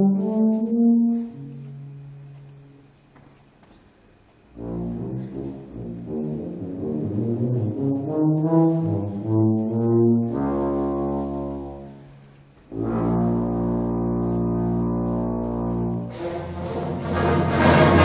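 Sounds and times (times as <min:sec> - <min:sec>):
concert band with tuba: 0:00.0 - 0:02.8, 0:04.5 - 0:18.0.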